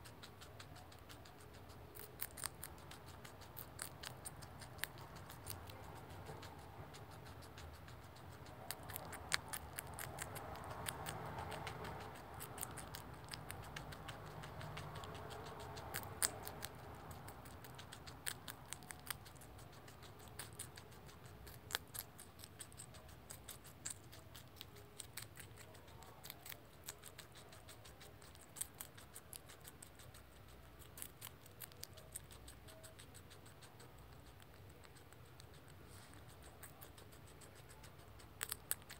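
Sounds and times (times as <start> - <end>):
guinea pig chewing celery: 0.0 - 38.9.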